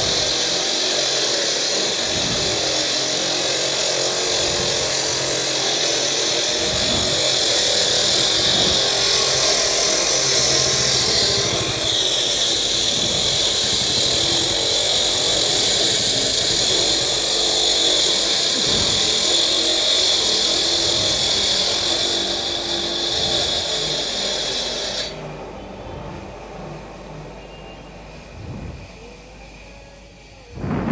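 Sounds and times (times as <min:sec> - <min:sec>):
concrete saw grinding whine: 0:00.0 - 0:30.9.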